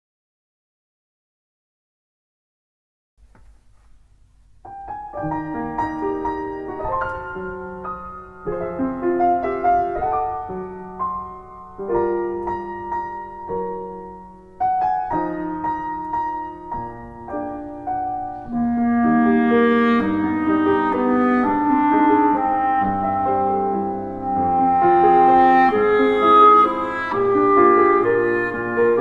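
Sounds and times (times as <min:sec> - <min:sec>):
piano melody over chords: 0:04.5 - 0:29.0.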